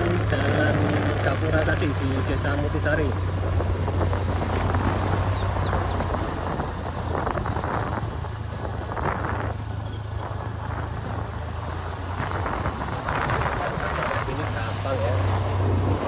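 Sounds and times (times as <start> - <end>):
rushes of noise: 0.0 - 16.0
vehicle engine and road noise: 0.0 - 16.0.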